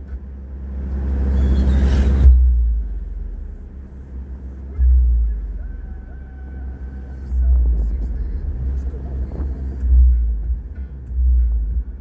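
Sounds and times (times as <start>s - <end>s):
car road and engine rumble: 0.0s - 12.0s
oncoming vehicle passing: 0.6s - 12.0s.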